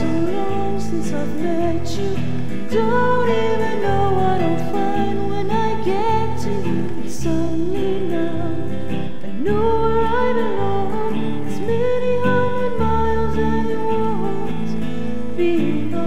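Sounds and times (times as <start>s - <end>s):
slow song with guitar: 0.0s - 16.0s.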